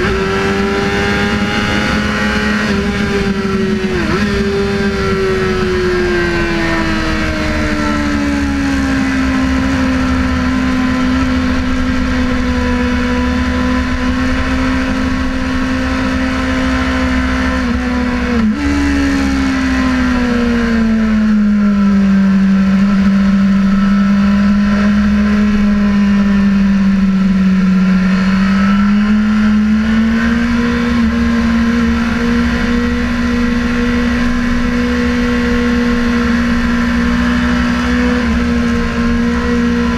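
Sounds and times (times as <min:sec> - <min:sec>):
motorcycle engine at high revs: 0:00.0 - 0:39.9
wind noise: 0:00.0 - 0:39.9.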